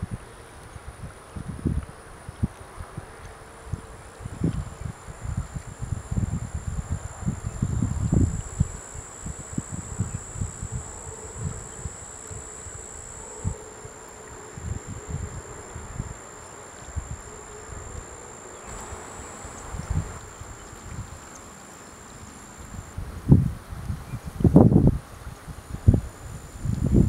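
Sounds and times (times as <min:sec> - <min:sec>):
wind rumble on microphone: 0:00.0 - 0:13.6, 0:14.6 - 0:16.2, 0:18.7 - 0:21.4, 0:22.6 - 0:27.0
high-pitched insect trill: 0:00.9 - 0:27.0.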